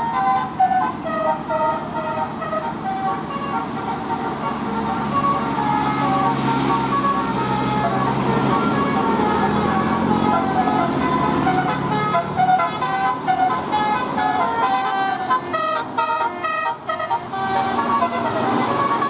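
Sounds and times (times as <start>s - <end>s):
multi-tone bus horn tune: 0.0s - 19.0s.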